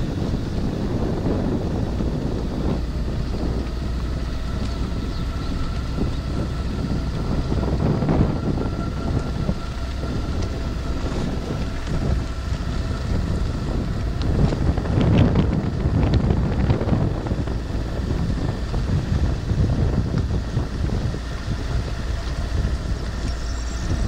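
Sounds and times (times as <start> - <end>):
car driving rumble: 0.0 - 24.0
wind buffeting microphone: 0.0 - 24.0.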